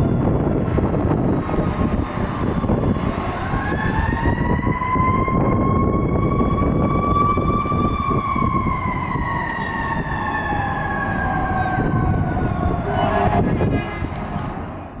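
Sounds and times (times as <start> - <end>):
fire engine siren: 0.0 - 15.0
truck engine and road rumble: 0.0 - 15.0.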